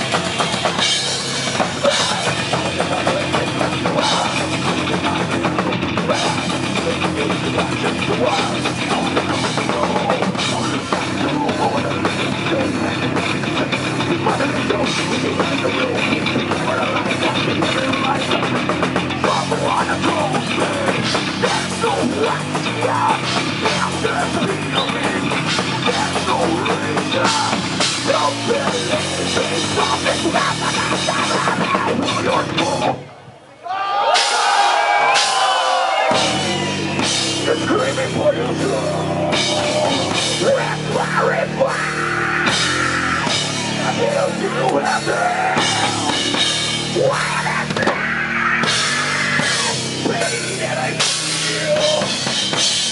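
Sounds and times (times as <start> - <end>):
fast drum kit: 0.0 - 33.0, 34.1 - 52.9
heavy metal band playing live: 0.0 - 33.1, 34.0 - 52.9.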